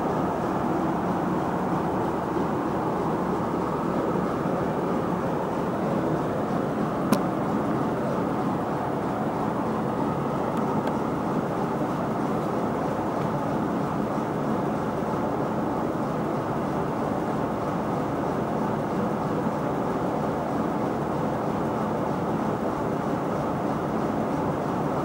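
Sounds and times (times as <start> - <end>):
farm machinery engine droning: 0.0 - 25.0.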